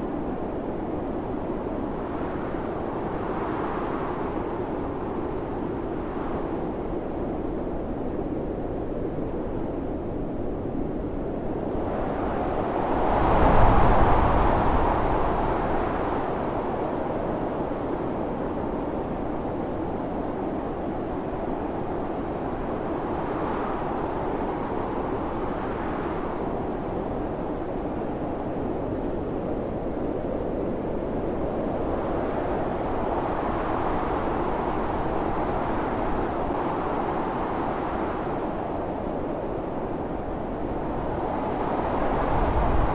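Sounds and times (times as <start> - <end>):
blizzard wind rushing: 0.0 - 42.9.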